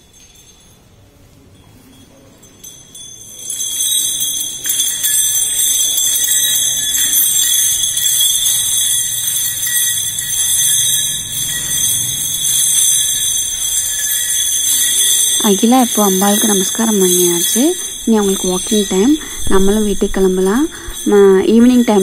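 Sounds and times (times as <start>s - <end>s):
metal bells ringing: 0.0s - 22.0s.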